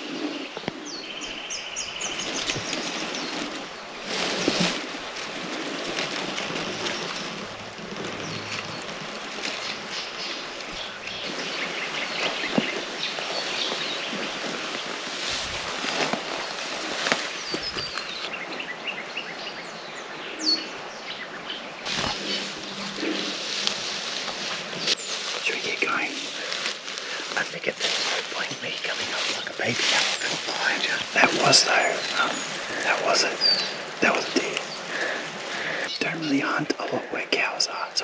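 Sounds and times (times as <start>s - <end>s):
background hiss: 0.0s - 38.0s
small birds chirping: 0.0s - 38.0s.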